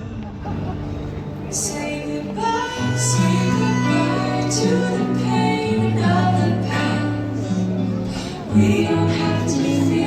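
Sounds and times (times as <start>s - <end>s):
music with singing: 0.0s - 10.0s.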